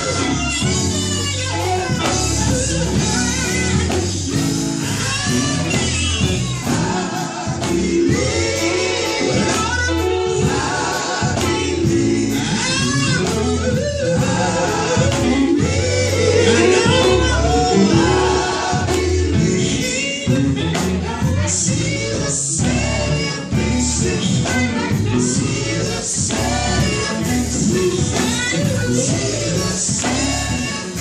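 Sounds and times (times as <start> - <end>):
gospel group singing: 0.0 - 31.0
instrumental backing: 0.0 - 31.0
steady bass line: 0.0 - 31.0.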